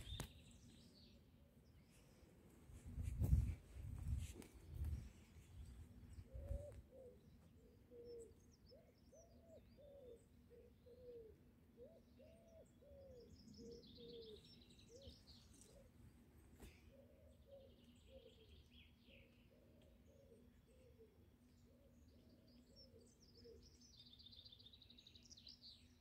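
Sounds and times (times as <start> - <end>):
songbird chirps and trill: 0.0 - 2.2, 4.8 - 16.0, 16.6 - 26.0
soft low bird calls: 0.0 - 26.0.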